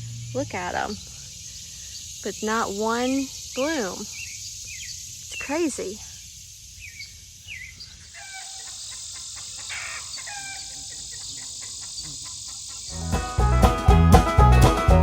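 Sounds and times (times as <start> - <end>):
birds chirping: 0.0 - 13.1
high drone of insects: 0.0 - 13.1.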